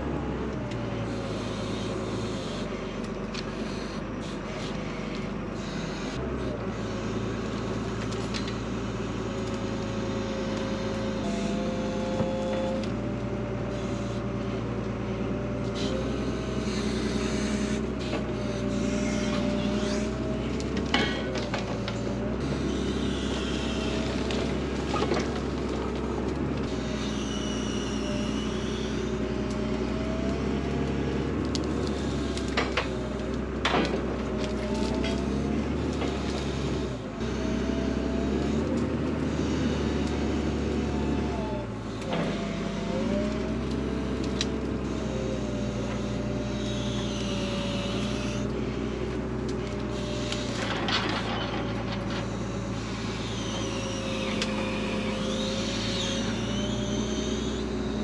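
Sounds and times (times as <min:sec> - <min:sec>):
hydraulic whine: 0:00.0 - 0:58.0
loader engine running: 0:00.0 - 0:58.0
scraping squeals: 0:00.8 - 0:58.0.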